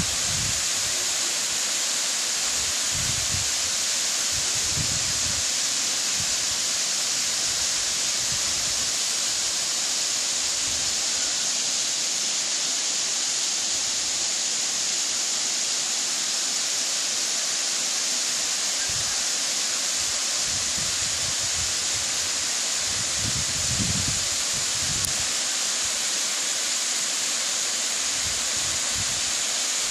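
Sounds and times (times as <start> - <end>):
waterfall rushing into pool: 0.0 - 29.9.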